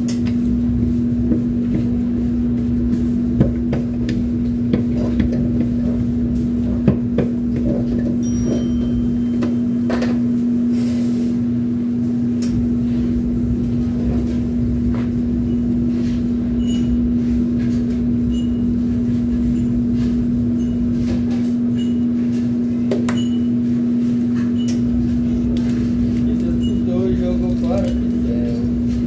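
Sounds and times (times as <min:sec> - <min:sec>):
kitchen equipment humming: 0:00.0 - 0:29.0.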